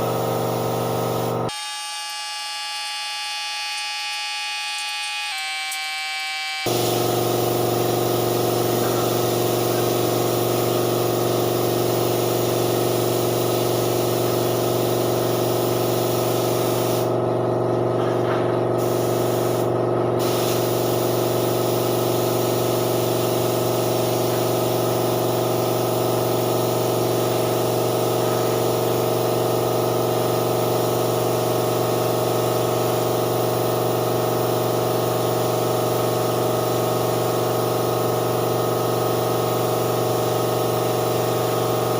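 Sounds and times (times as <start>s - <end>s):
spray gun hissing: 0.0s - 1.5s, 6.6s - 17.1s, 18.8s - 41.9s
air compressor humming: 0.0s - 41.9s.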